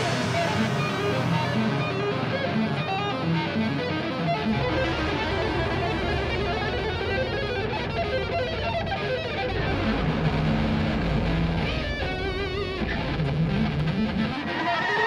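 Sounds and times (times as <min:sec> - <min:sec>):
solo electric guitar: 0:00.0 - 0:14.6.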